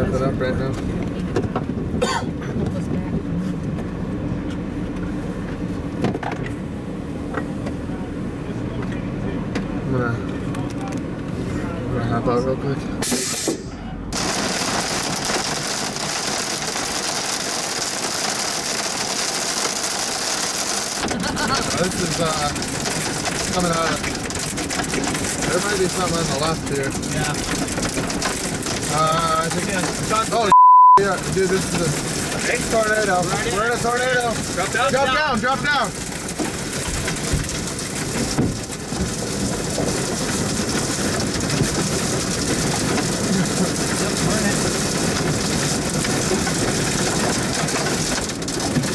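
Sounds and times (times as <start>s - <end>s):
heavy rain on a car windshield: 7.2s - 12.8s, 14.1s - 48.9s.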